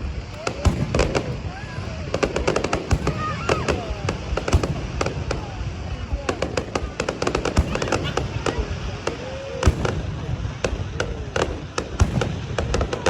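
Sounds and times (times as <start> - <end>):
continuous low rumble: 0.0 - 13.0
fireworks bangs and crackles: 0.0 - 13.0.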